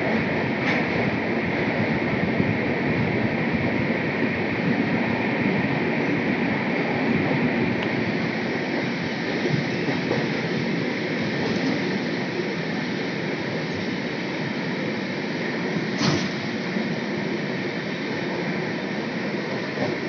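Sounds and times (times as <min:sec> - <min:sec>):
train wheels clattering on rail: 0:00.0 - 0:20.0
wind noise: 0:00.0 - 0:20.0.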